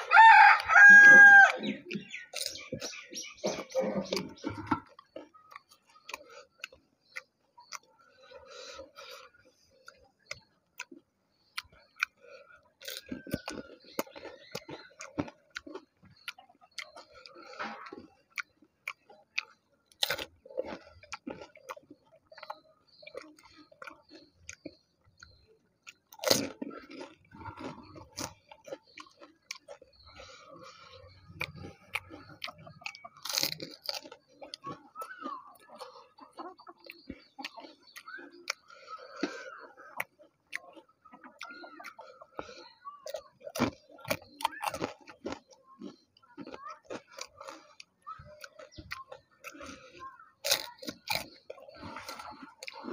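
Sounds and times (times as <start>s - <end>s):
wet chewing: 0.0s - 52.9s.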